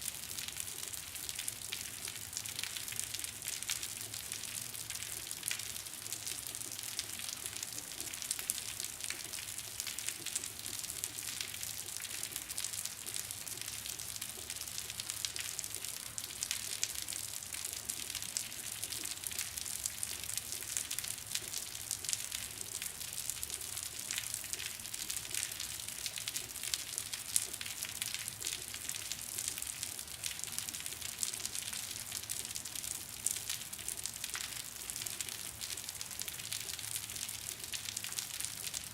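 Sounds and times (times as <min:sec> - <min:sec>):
rain on concrete: 0:00.0 - 0:38.9.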